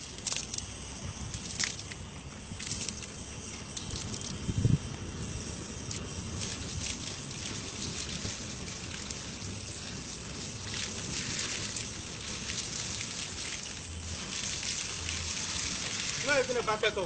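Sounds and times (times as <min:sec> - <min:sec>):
gas flame jet hissing: 0:00.0 - 0:17.0.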